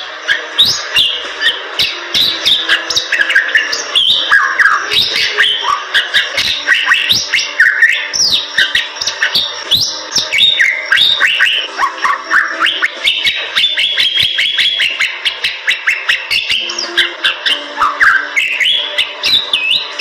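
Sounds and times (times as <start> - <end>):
bird singing with clicks and whistles: 0.0 - 20.0.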